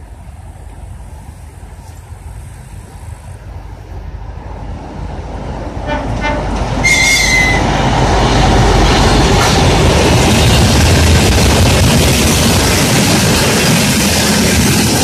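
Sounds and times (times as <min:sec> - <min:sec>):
diesel freight train passing: 0:00.0 - 0:15.0.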